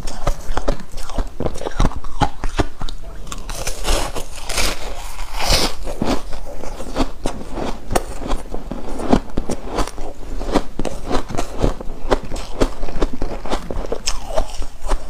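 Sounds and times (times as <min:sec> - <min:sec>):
ice chewing crunches: 0:00.0 - 0:15.0.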